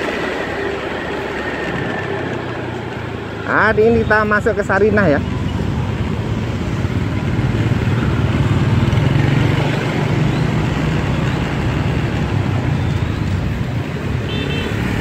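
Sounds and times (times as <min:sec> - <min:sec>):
road traffic with vehicle engines: 0:00.0 - 0:15.0.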